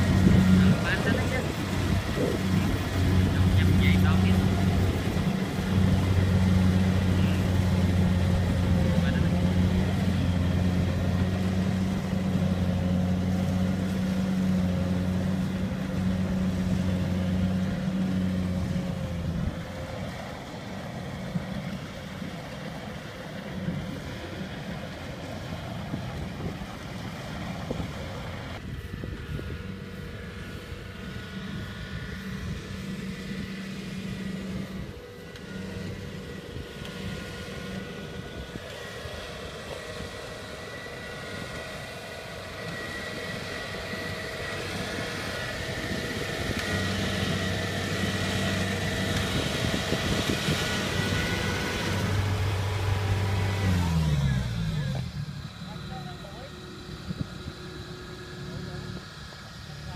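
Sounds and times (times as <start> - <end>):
combine harvester engine droning: 0.0 - 59.9.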